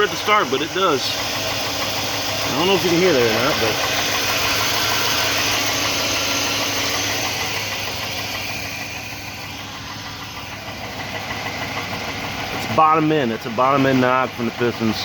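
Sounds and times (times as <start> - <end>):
engine idling with knock: 0.0 - 15.0.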